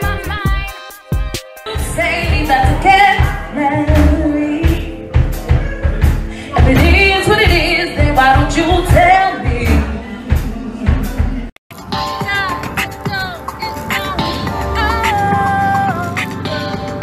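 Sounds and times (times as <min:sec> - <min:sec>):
woman singing into microphone: 0:00.0 - 0:05.2, 0:06.4 - 0:10.3, 0:12.2 - 0:16.8
backing track with steady beat: 0:00.0 - 0:17.0.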